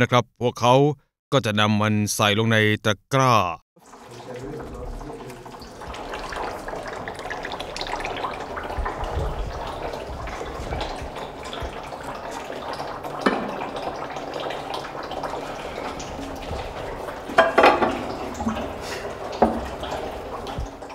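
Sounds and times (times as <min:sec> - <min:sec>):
trickling liquid: 0:03.8 - 0:20.9.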